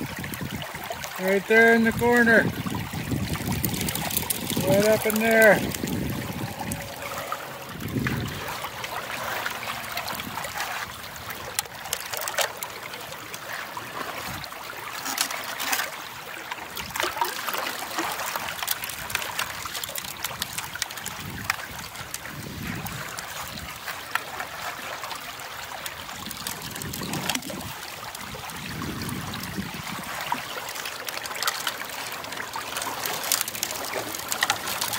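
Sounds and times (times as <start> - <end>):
creek water trickling: 0.0 - 34.9
small water splashes: 0.0 - 34.9.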